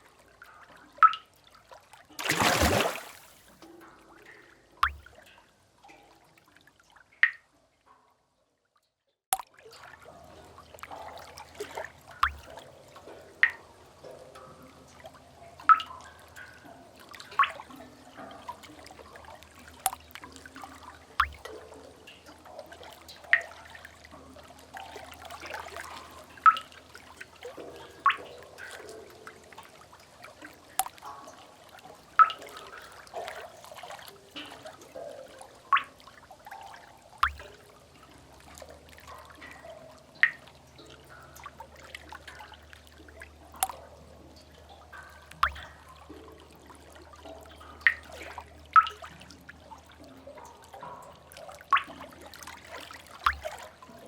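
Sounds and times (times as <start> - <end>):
trickling water: 0.0 - 8.2, 8.8 - 54.0
water drops plopping: 1.0 - 1.3, 2.1 - 6.0, 7.2 - 7.5, 9.4 - 14.5, 15.4 - 24.2, 24.8 - 29.3, 30.7 - 49.2, 49.8 - 54.0.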